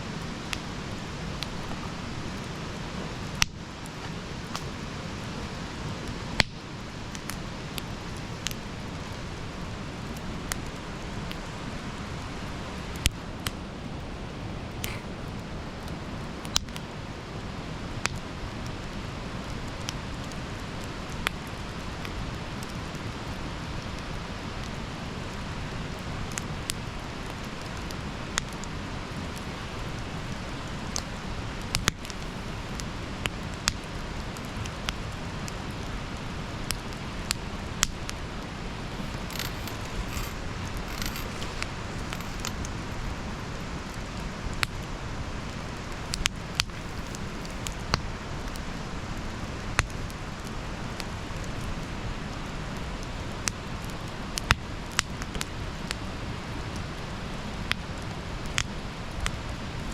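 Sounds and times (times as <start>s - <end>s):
campfire popping and crackling: 0.1s - 59.9s.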